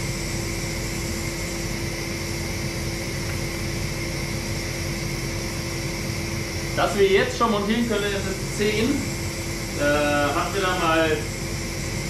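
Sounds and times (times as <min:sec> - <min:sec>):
machinery droning: 0:00.0 - 0:12.0.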